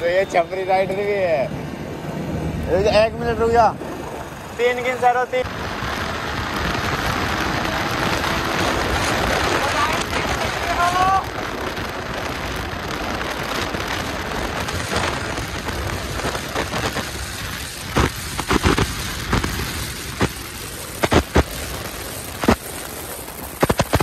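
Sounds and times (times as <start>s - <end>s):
wind rushing over microphone: 0.0s - 24.0s
wind buffeting pops: 0.8s - 24.0s.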